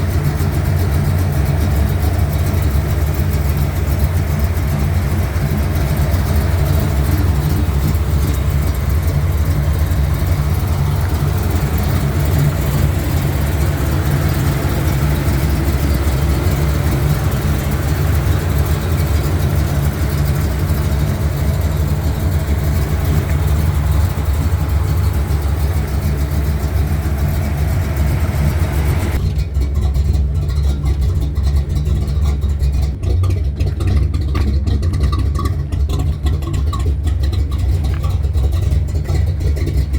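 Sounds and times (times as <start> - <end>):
pickup engine rumbling: 0.0 - 39.9.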